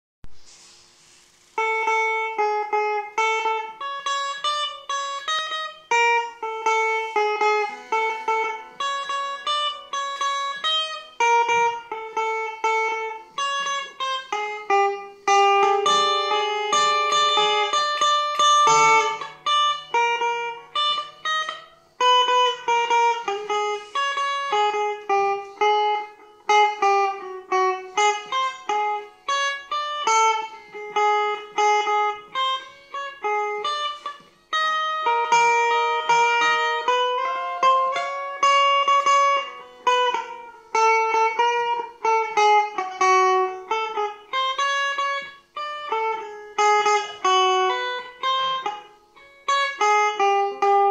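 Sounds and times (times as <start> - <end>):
electric guitar picked notes: 0.2 - 50.9.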